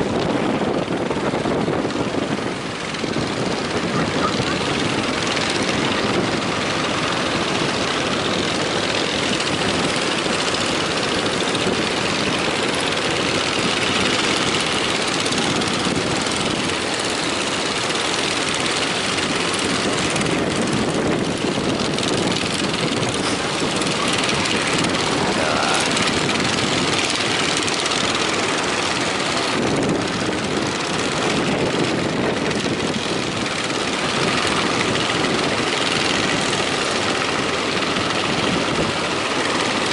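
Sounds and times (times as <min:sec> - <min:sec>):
strong wind: 0:00.0 - 0:39.9
waves breaking: 0:01.1 - 0:39.9.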